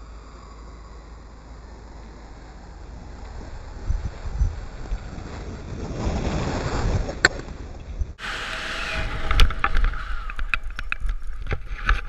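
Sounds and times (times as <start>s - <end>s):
wind rushing over camera: 0.0s - 12.0s.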